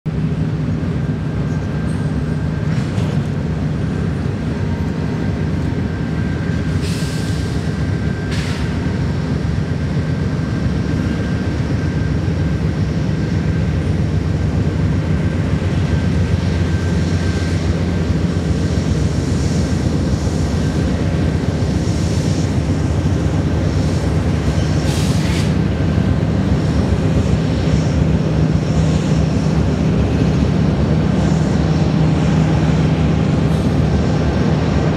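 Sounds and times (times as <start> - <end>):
diesel locomotive drone: 0.0 - 34.9
train wheels rumbling on rail: 0.1 - 34.9.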